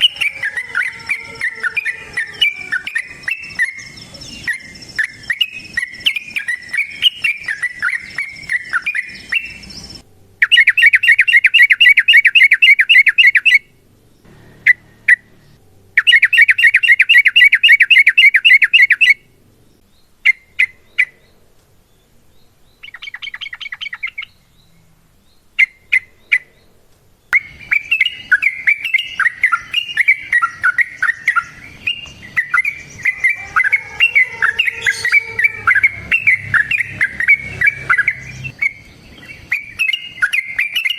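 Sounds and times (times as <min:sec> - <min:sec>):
bird fast rolling trills: 0:00.0 - 0:21.2, 0:27.4 - 0:40.9
bird chattering warbling song: 0:00.0 - 0:21.4, 0:27.3 - 0:40.9.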